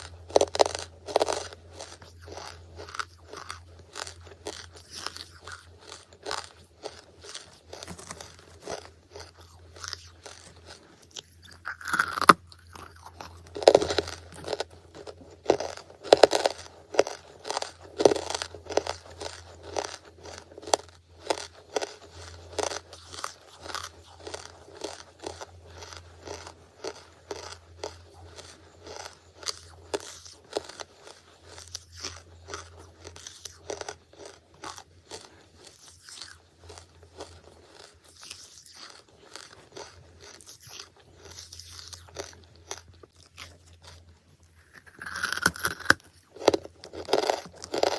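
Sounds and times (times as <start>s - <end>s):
person chewing charcoal crunching: 0.0s - 47.9s.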